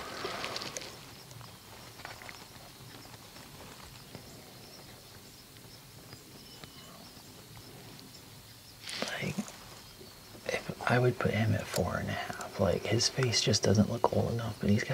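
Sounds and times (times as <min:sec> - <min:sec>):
faint background hiss: 0:00.0 - 0:14.9.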